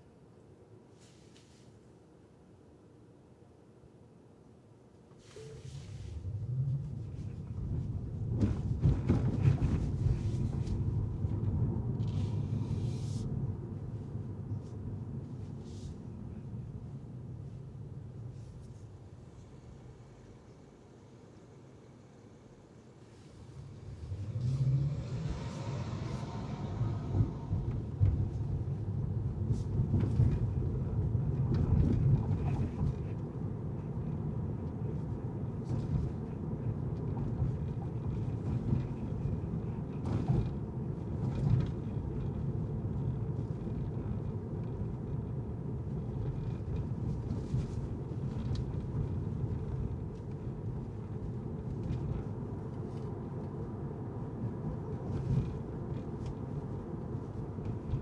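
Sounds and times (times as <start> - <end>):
car road and engine rumble: 5.1 - 58.0.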